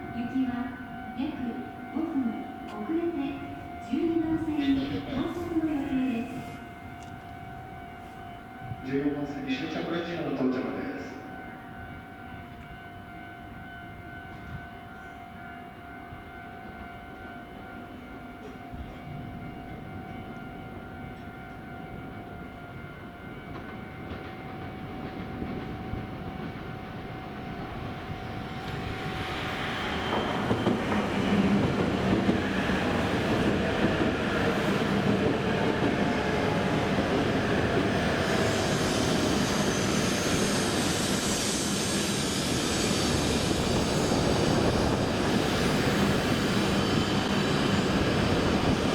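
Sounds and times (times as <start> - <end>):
train running noise: 0.0 - 48.9.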